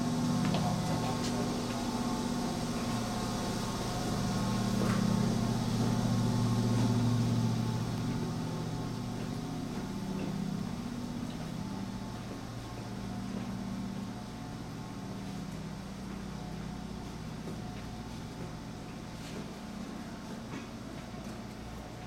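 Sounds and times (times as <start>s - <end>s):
electric train equipment humming: 0.0s - 22.0s.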